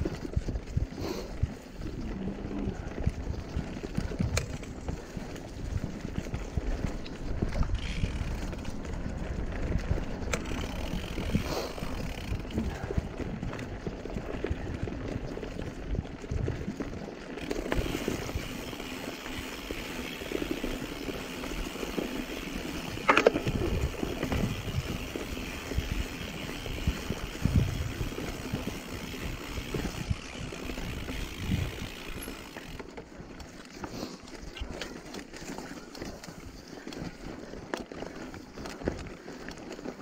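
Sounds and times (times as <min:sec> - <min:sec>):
bike knocking and rattling: 0:00.0 - 0:40.0
bike tyres rolling on dirt: 0:00.0 - 0:40.0.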